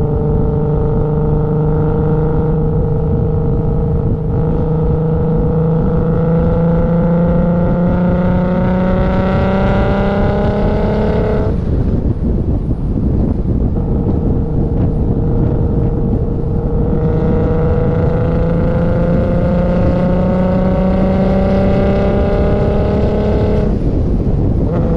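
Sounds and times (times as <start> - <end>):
car engine accelerating hard: 0.0 - 24.9.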